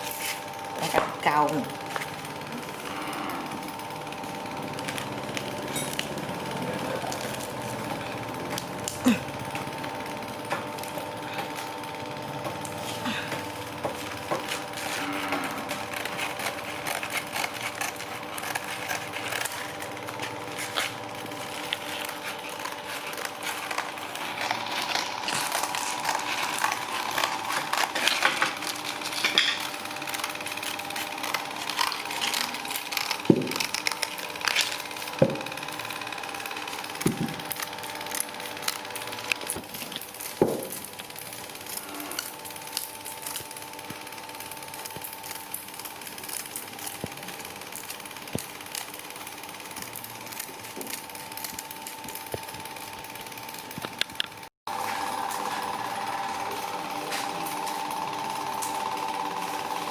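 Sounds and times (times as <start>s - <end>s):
machine humming: 0.0s - 59.9s.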